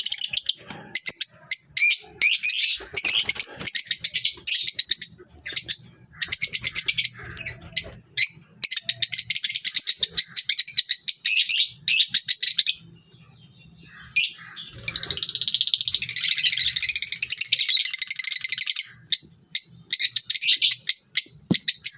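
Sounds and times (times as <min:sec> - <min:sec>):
parrots calling shrill chirps: 0:00.0 - 0:12.9, 0:13.8 - 0:21.9.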